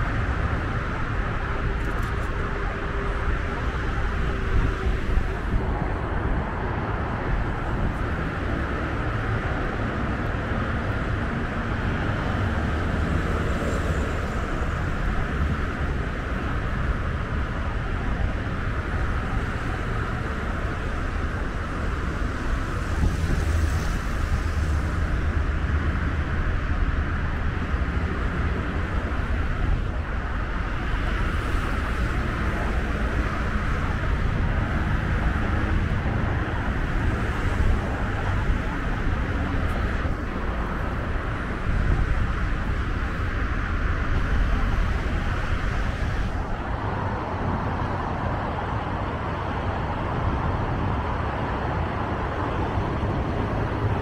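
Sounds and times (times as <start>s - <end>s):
road traffic hiss: 0.0s - 54.0s
wind rumble on microphone: 0.0s - 54.0s.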